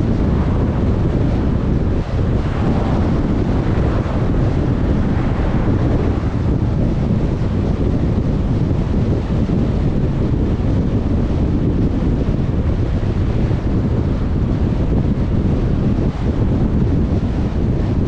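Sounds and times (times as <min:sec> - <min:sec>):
car road and tyre rumble: 0:00.0 - 0:18.0.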